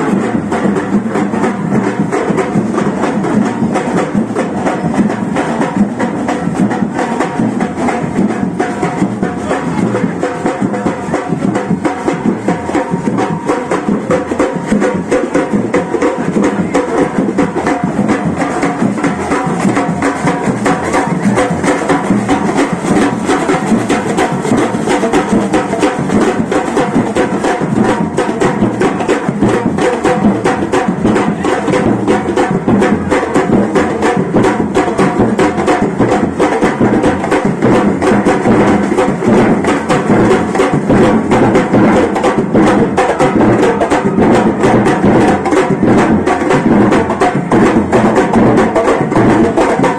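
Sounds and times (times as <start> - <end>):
drums playing fast beat: 0.0 - 49.9.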